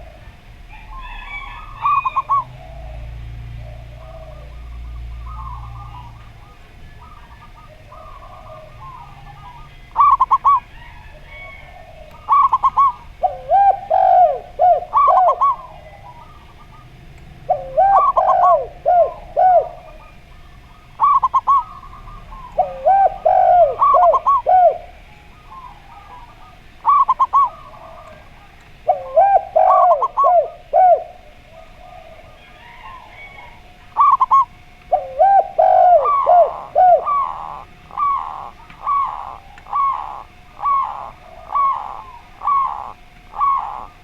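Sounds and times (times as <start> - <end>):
doves cooing: 0.0 - 44.0.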